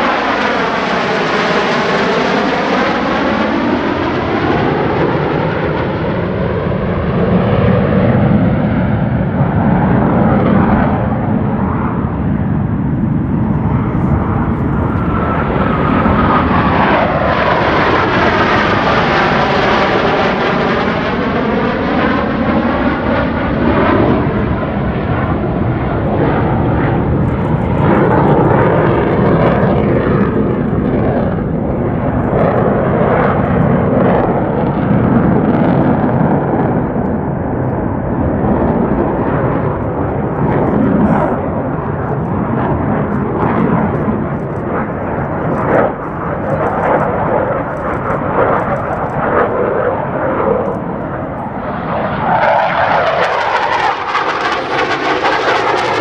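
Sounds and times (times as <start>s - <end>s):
jets roaring past: 0.0s - 56.0s.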